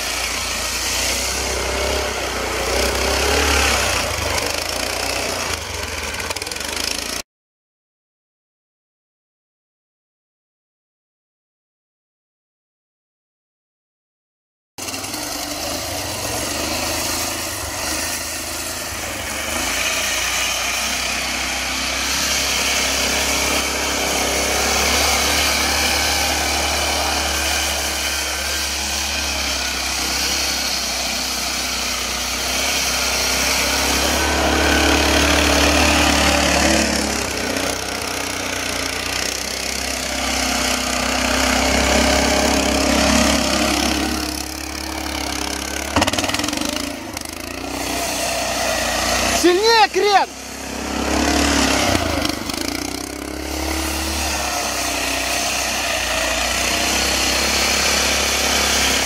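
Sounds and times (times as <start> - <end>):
motorcycle engine running: 0.0 - 7.2, 14.8 - 59.0.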